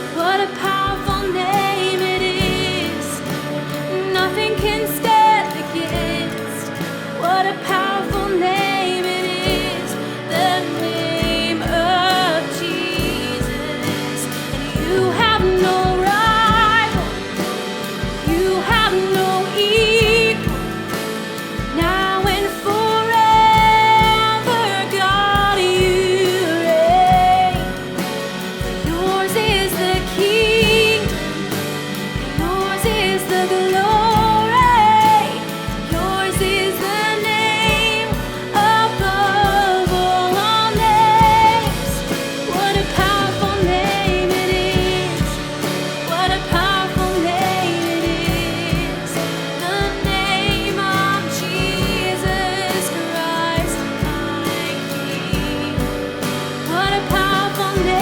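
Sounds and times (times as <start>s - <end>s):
person singing: 0.0s - 58.0s
worship band playing: 0.0s - 58.0s.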